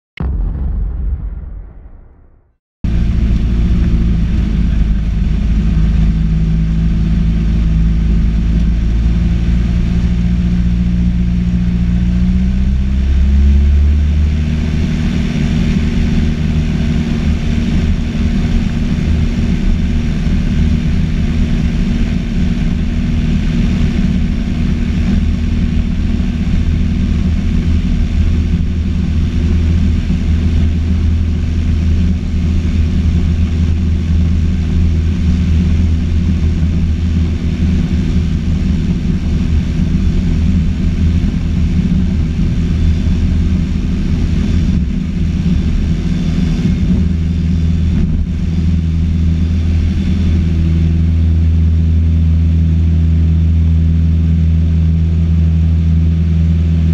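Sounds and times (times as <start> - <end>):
small plane engine and propeller: 2.9 - 56.9.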